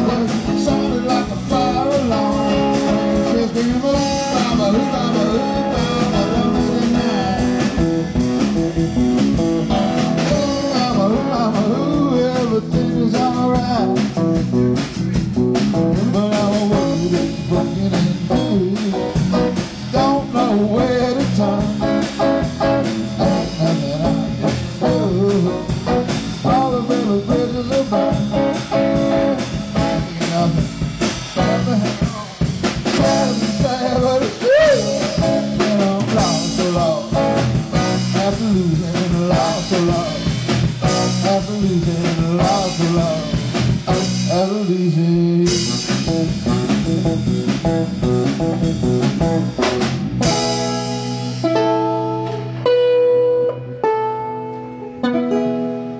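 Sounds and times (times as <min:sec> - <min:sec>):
wavering guitar lines: 0:00.0 - 0:44.5, 0:45.1 - 0:55.9
blues-rock band playing: 0:00.0 - 0:55.9.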